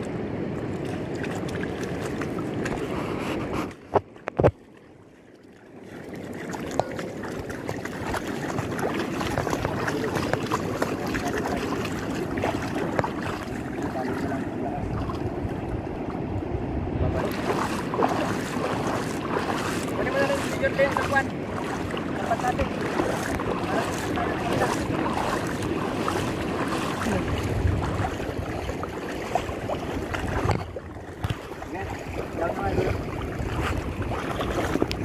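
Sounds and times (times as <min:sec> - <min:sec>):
water sloshing and splashing: 0:00.0 - 0:35.0.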